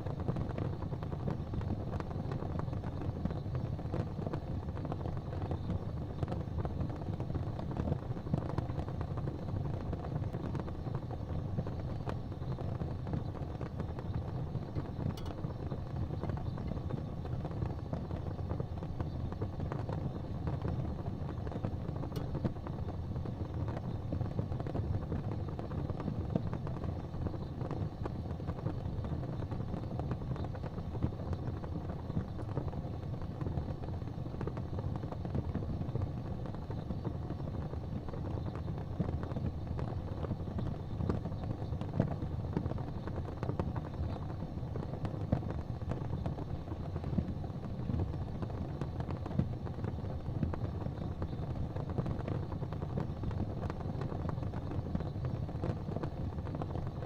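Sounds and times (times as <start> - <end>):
fire burning in fireplace: 0.0 - 57.0.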